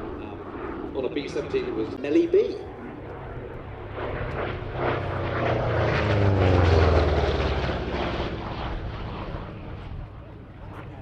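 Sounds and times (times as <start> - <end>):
radial piston aircraft engine flypast: 0.0 - 11.0.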